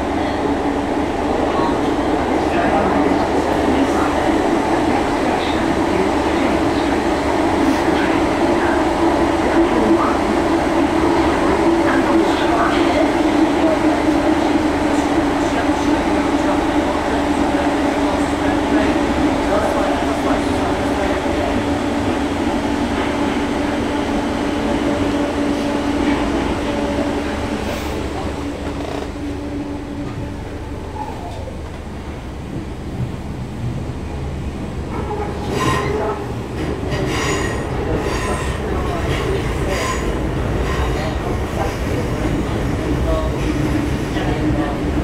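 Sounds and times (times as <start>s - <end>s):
train carriage interior rumble: 0.0s - 45.0s.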